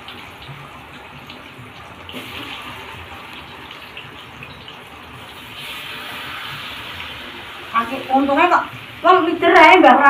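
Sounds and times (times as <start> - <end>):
oil sizzling in woks: 0.0 - 10.0.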